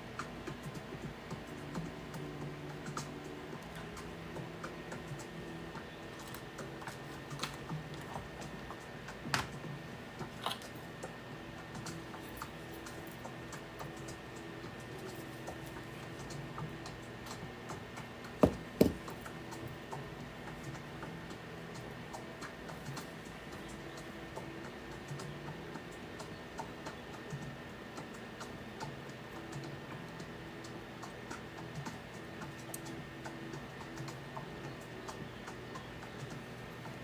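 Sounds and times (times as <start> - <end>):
faint background music: 0.0 - 37.0.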